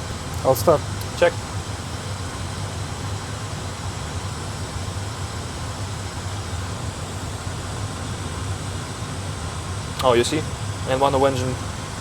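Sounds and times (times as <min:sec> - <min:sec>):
cockpit rushing hiss and hum: 0:00.0 - 0:12.0.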